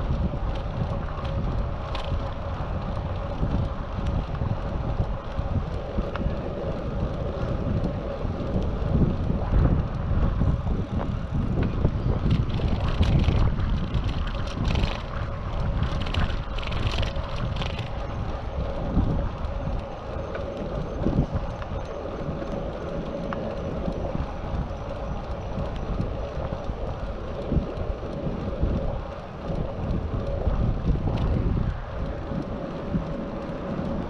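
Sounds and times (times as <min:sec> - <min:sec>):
road and tyre noise: 0:00.0 - 0:34.0
wind buffeting microphone: 0:00.0 - 0:34.0.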